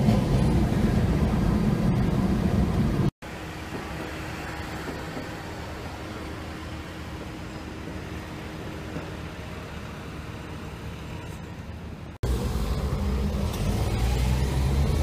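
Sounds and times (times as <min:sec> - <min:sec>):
car engines rumbling: 0:00.0 - 0:15.0
muffled road traffic: 0:00.0 - 0:15.0.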